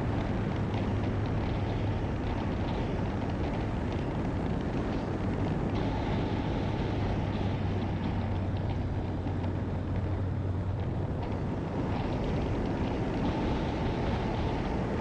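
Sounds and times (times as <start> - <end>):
motorcycle engine hum: 0.0 - 15.0
wind on microphone: 0.0 - 15.0.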